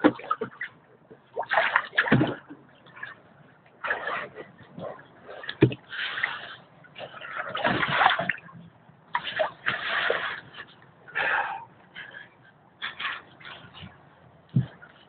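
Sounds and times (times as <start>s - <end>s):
water sloshing in rubber wader: 0.0s - 15.0s.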